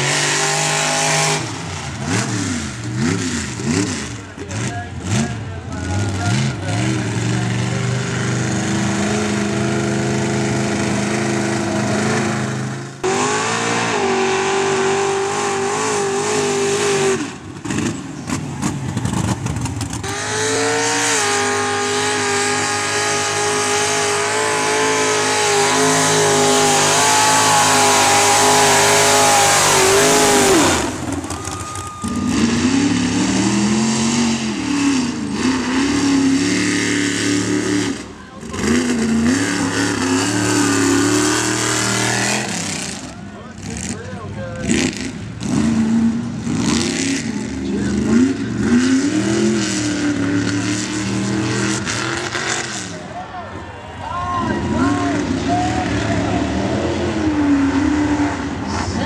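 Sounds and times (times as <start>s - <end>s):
truck engines revving hard: 0.0s - 59.0s.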